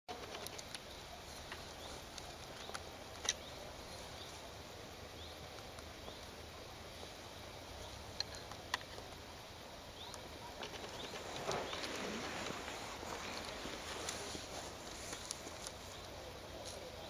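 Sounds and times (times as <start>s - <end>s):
steady hiss: 0.1s - 17.0s.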